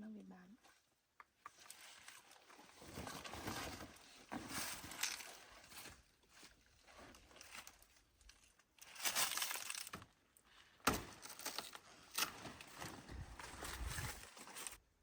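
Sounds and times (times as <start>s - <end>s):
plant leaves rustling: 1.5s - 14.8s.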